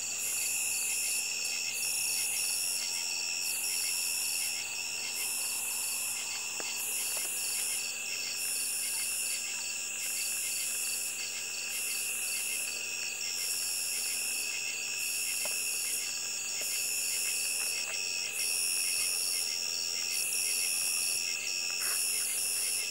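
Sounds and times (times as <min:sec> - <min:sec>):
insects trilling: 0:00.0 - 0:22.9
very high pulsing insect call: 0:00.0 - 0:22.9.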